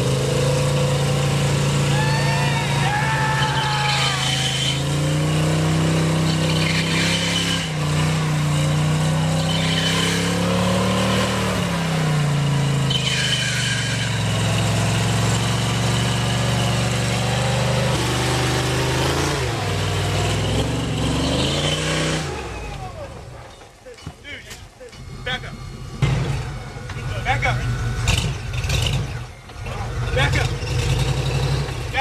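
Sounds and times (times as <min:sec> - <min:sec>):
truck engine revving under load: 0:00.0 - 0:32.0.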